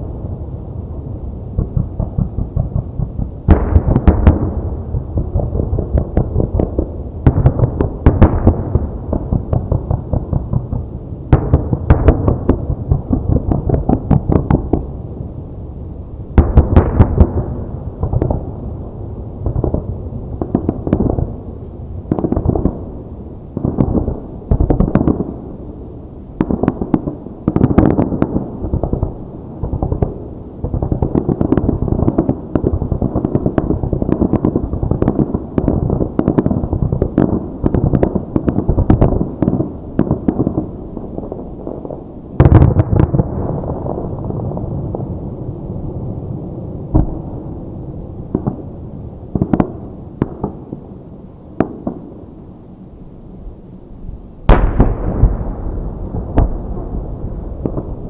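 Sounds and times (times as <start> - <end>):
fireworks bursting: 1.5 - 52.5, 54.4 - 58.0.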